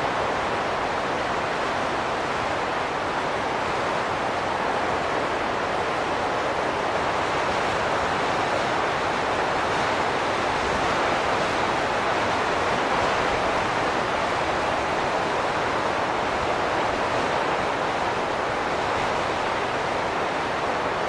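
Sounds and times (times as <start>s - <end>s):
wind blowing steadily: 0.0s - 21.0s.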